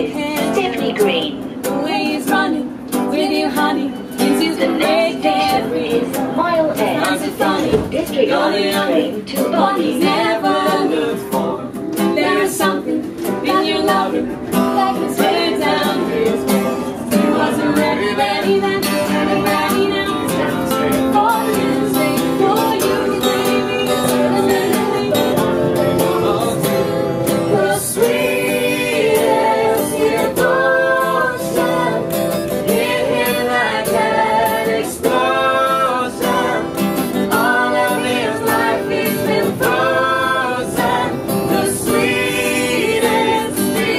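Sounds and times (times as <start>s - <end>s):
acoustic guitar strumming: 0.0s - 43.9s
voices singing: 0.0s - 43.9s.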